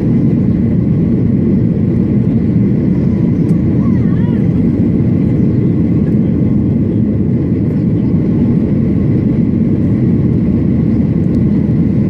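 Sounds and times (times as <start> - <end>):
jet engine and airflow rush: 0.0 - 12.0.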